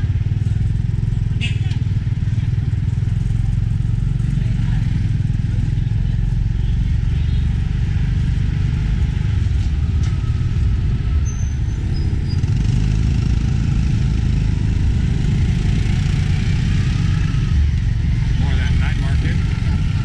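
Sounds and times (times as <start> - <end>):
heavy low engine rumble: 0.0 - 20.0.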